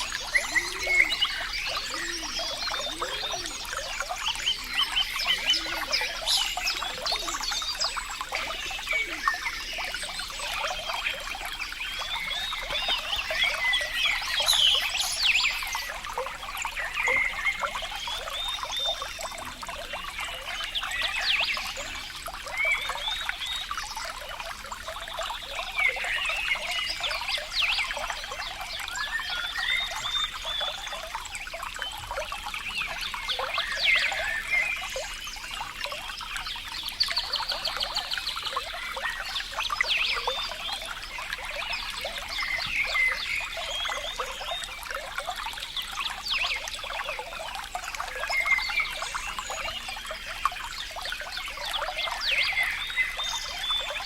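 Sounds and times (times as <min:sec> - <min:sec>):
water trickling and bubbling: 0:00.0 - 0:54.0.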